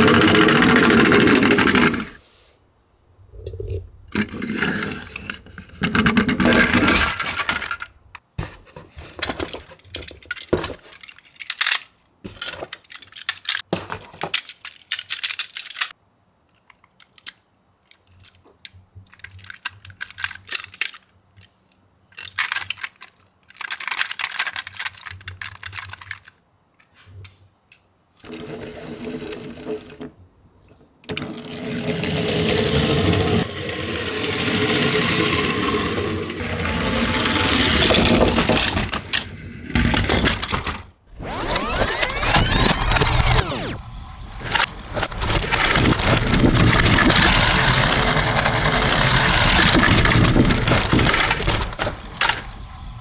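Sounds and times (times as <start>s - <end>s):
toy cars clicking and rattling: 0.0s - 2.2s, 4.2s - 7.9s, 9.2s - 21.5s, 22.1s - 26.4s, 31.1s - 43.7s, 44.5s - 52.4s.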